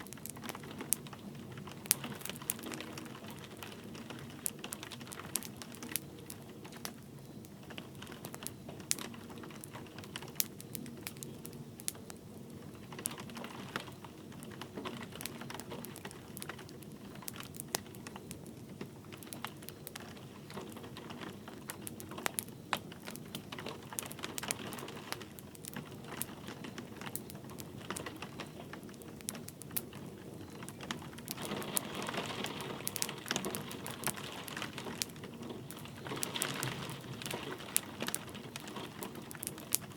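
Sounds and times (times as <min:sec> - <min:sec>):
light rain hiss: 0:00.0 - 0:39.9
wood fire crackling and popping: 0:00.0 - 0:39.9.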